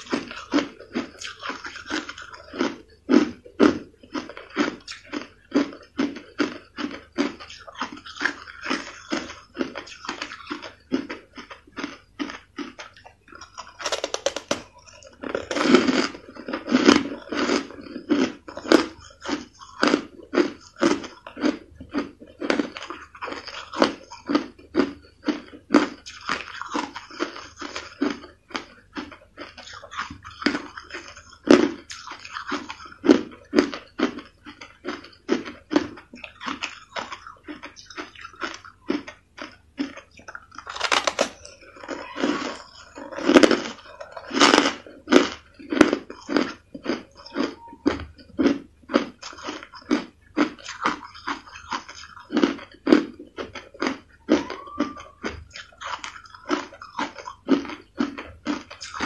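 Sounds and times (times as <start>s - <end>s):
crushed ice being chewed: 0.0s - 59.0s.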